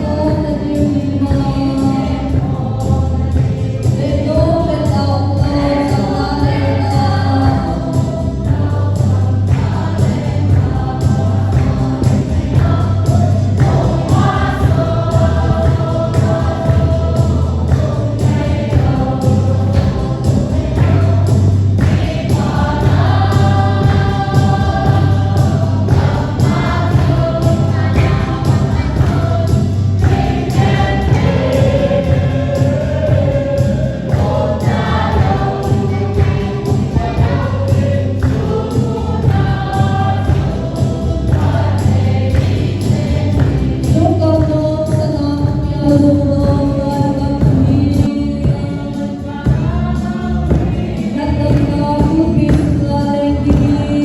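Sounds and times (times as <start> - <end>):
choir singing gospel song: 0.0 - 54.0
instrumental backing with beat: 0.0 - 54.0.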